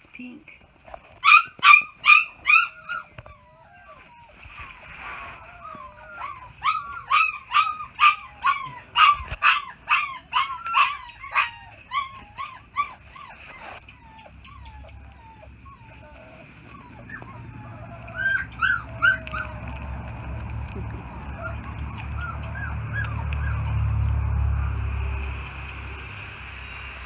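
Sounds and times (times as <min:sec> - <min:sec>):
puppy whimpering yelps: 0:01.2 - 0:24.1.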